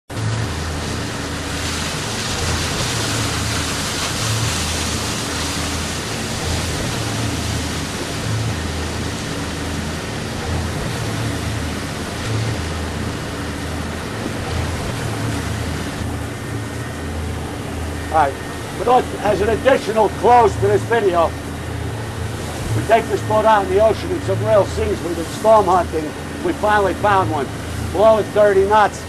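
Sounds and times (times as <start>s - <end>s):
boat engine drone: 0.0s - 29.0s
rushing water and wind: 0.1s - 29.0s.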